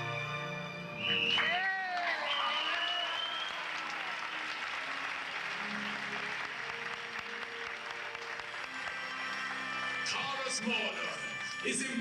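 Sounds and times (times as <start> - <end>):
soft music: 0.0 - 12.0
audience applauding: 1.1 - 12.0.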